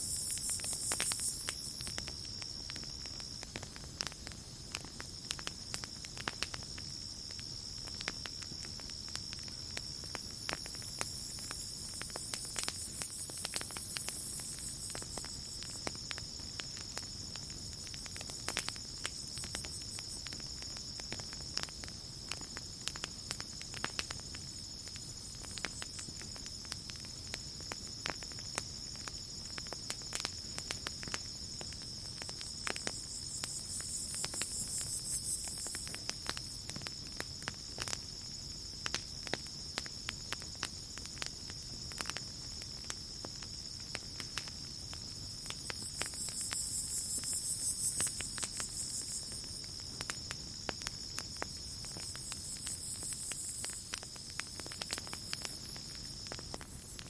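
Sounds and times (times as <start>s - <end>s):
night insects chirring: 0.0s - 57.0s
campfire crackling and popping: 0.1s - 57.0s.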